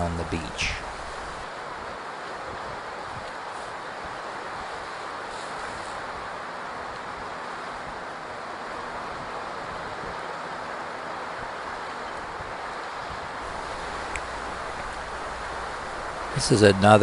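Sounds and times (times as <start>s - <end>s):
ocean surf washing on shore: 0.0s - 17.0s.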